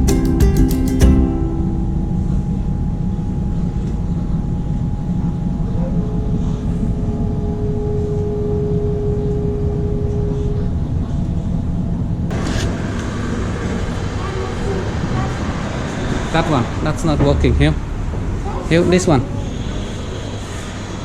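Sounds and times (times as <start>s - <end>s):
faint steady hum: 0.0s - 21.0s
vehicle engine rumbling: 0.0s - 21.0s.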